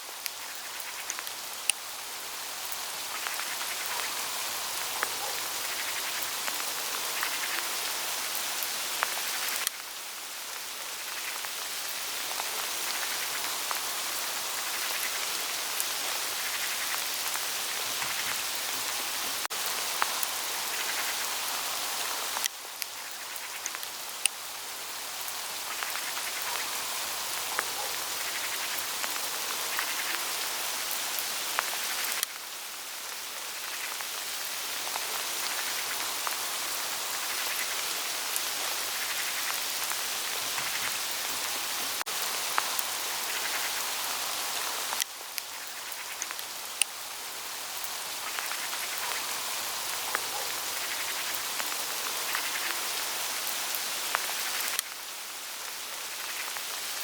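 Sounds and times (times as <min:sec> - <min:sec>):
hail falling on foliage: 0:00.1 - 0:57.0.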